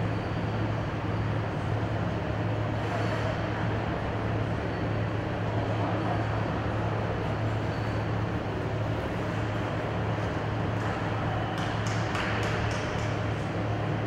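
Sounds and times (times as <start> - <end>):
machinery hum and hiss: 0.0 - 14.0.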